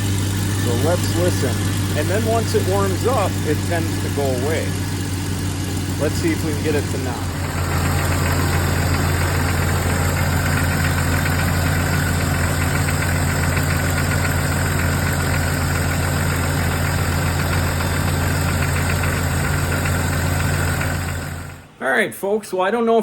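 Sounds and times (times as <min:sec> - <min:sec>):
engine ticking knocking: 0:00.0 - 0:21.6
car engine idling: 0:00.0 - 0:21.7.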